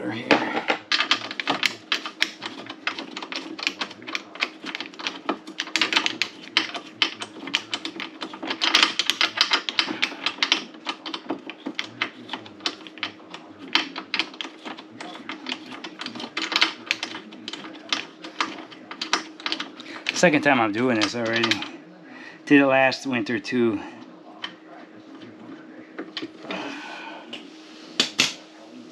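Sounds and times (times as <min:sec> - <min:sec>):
steady low hum: 0:00.0 - 0:28.9
small hard parts clicking: 0:00.3 - 0:21.8, 0:24.4 - 0:26.9.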